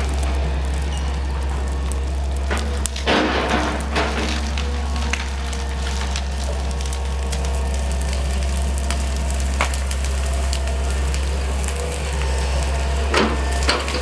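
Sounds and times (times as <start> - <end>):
engine running: 0.0 - 14.0
wood and branches cracking: 0.0 - 14.0.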